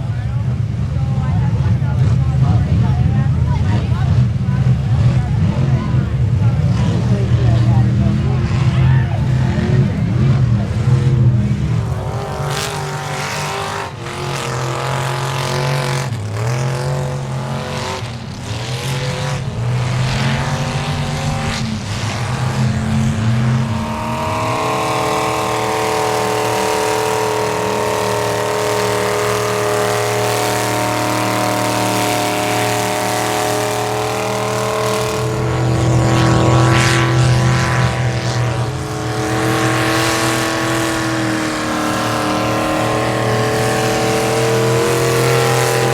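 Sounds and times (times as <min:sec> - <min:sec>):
pickup engine revving hard: 0:00.0 - 0:45.9.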